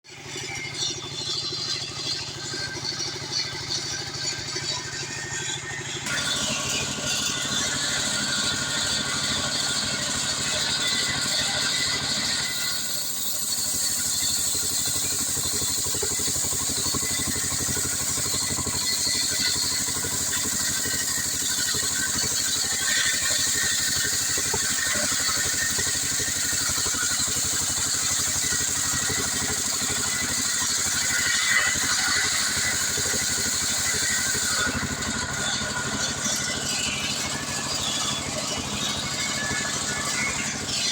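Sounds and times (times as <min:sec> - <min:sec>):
chainsaw engine running: 0:00.1 - 0:40.9.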